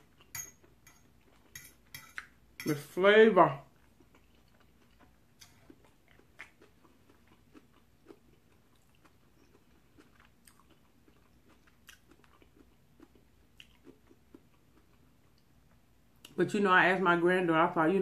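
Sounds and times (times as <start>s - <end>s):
faint chewing: 0.0s - 2.4s, 3.6s - 16.4s.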